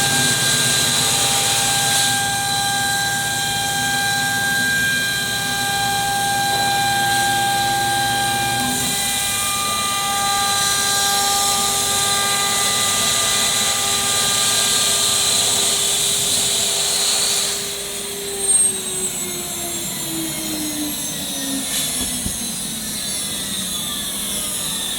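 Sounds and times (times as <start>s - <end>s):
wood cutting hiss: 0.0s - 24.5s
router spindle whining: 0.0s - 24.9s.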